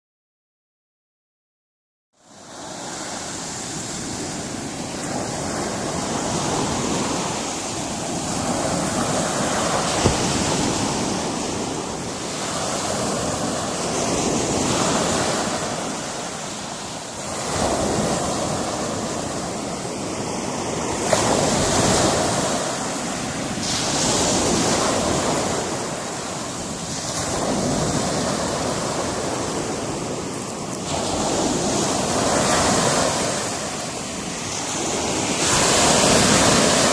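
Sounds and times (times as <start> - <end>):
waves breaking on rocks: 3.8 - 19.8, 20.7 - 36.9.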